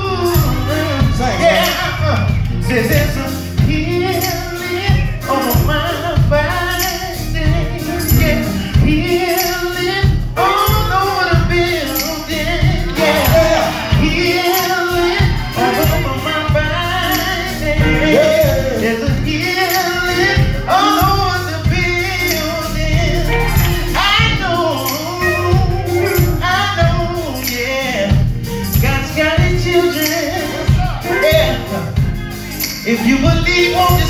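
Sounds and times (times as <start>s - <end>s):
band with bass and percussion: 0.0s - 34.0s
men singing gospel: 0.0s - 34.0s.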